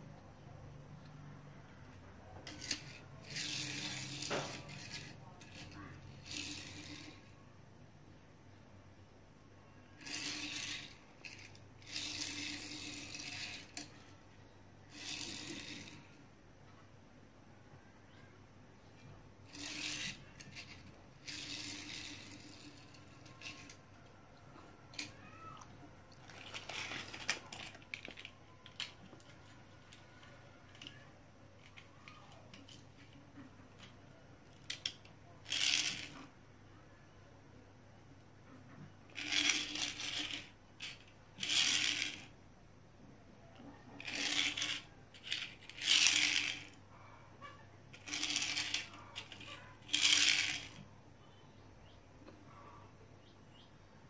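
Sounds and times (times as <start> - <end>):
toy car wheels rolling on tile: 0.3 - 7.4, 9.7 - 16.8, 18.1 - 36.4, 38.4 - 42.4, 43.4 - 50.9.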